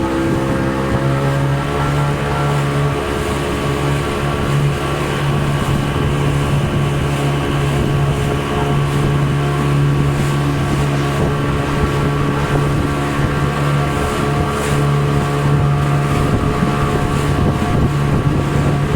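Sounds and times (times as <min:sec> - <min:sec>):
boat engine droning: 0:00.0 - 0:18.9
wind on microphone: 0:00.0 - 0:18.9.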